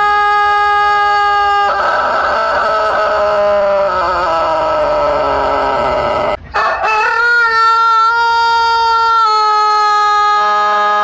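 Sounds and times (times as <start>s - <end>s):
rooster crowing: 0.0s - 11.0s.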